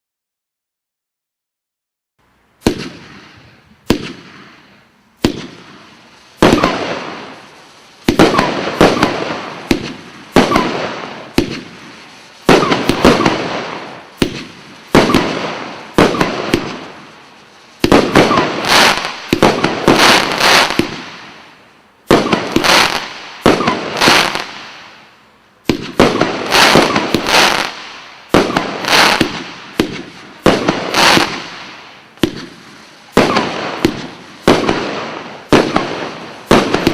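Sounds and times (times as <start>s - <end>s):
firework bangs: 2.6s - 36.9s.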